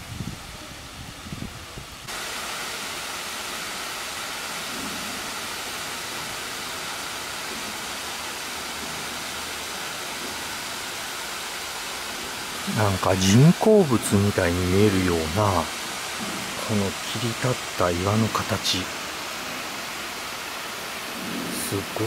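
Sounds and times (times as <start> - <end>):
water rushing in a gorge: 0.0 - 22.0.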